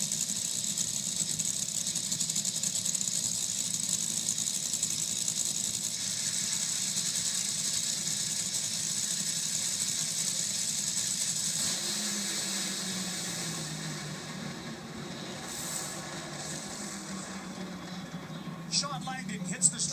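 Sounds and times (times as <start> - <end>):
dragster engines crackling rattle: 0.0 - 19.9.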